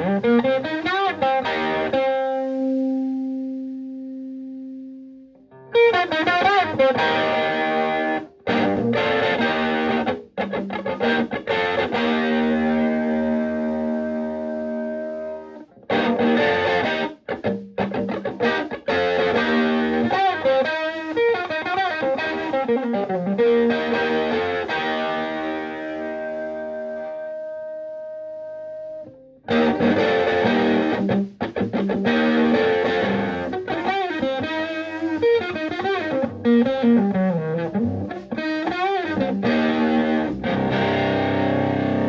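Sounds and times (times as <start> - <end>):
electric guitar chords ringing: 0.0 - 42.0.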